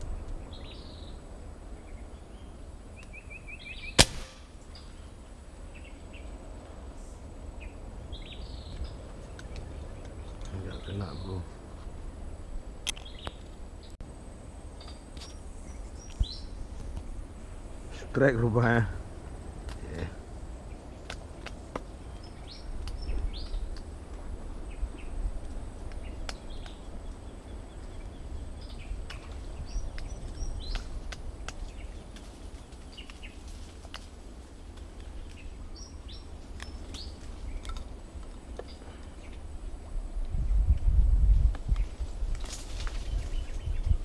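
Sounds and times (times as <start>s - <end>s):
birds chirping: 0.0s - 14.0s, 14.6s - 23.9s, 24.6s - 40.9s
steady low rumble: 0.0s - 44.0s.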